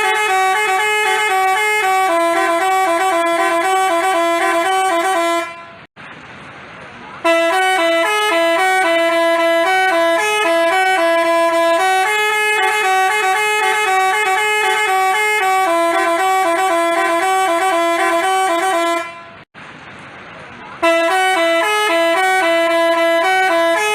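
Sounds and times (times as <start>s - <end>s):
musical horn playing a tune: 0.0s - 5.9s, 7.2s - 19.4s, 20.8s - 23.9s.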